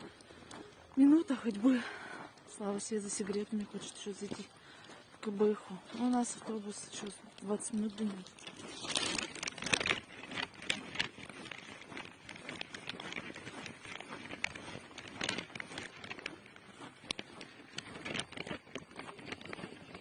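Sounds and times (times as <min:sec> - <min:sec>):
footsteps crunching on snow: 0:00.0 - 0:20.0.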